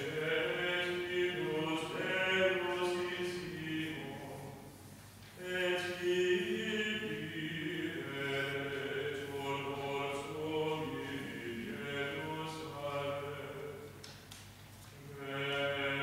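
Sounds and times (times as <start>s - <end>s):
voices singing slow chant: 0.0s - 14.1s, 15.0s - 16.0s.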